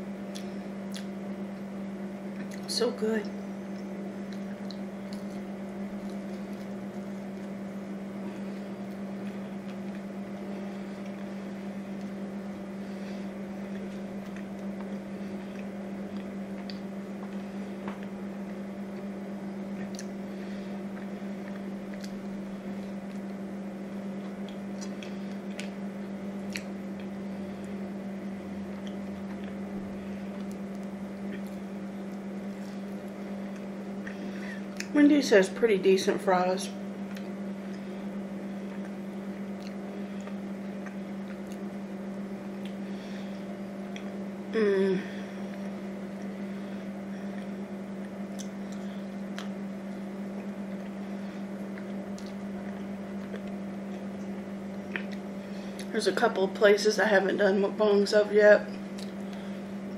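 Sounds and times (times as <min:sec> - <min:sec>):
steady low hum: 0:00.0 - 0:59.9
person chewing food: 0:00.2 - 0:02.7, 0:03.6 - 0:34.9, 0:37.0 - 0:44.5, 0:45.4 - 0:55.9, 0:58.7 - 0:59.9.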